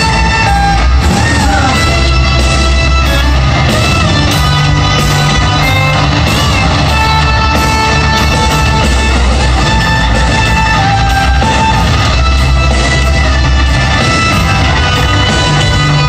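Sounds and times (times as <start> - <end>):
bass guitar: 0.0 - 16.0
distorted electric guitars: 0.0 - 16.0
drums: 0.0 - 16.0.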